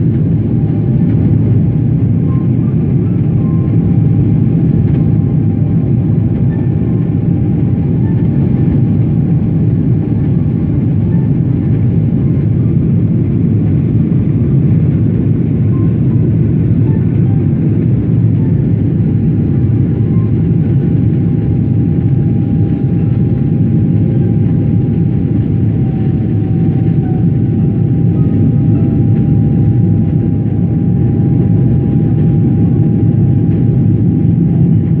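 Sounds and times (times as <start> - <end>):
jet engines rumbling in cabin: 0.0 - 35.0.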